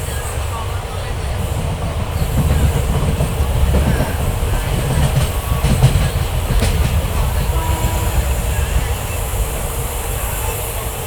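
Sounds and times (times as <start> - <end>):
train clatter: 0.0 - 11.0
train wheels rumbling on rails: 0.0 - 11.0.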